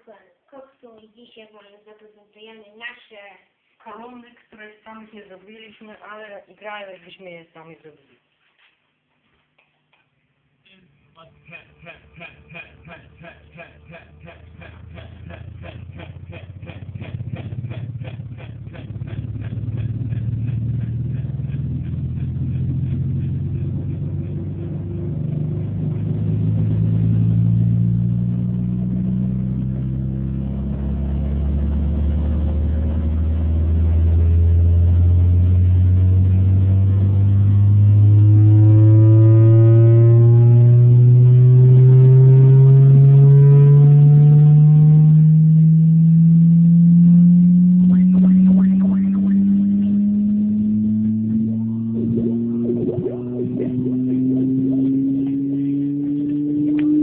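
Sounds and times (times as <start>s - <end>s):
low bass test tone: 11.1s - 57.0s.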